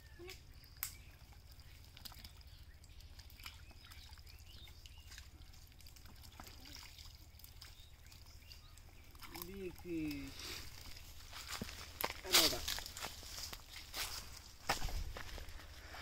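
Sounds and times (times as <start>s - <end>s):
muddy water trickling and splashing: 0.0s - 16.0s.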